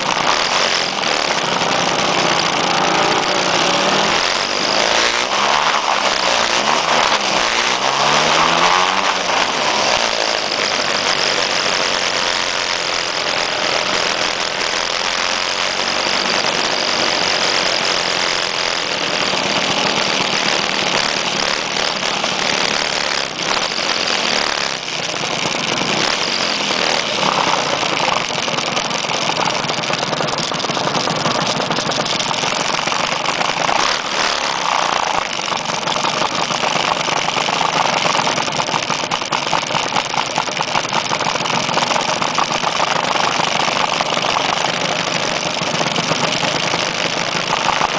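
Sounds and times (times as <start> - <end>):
scooter engines revving: 0.0 - 47.9
scooters idling: 0.0 - 47.9.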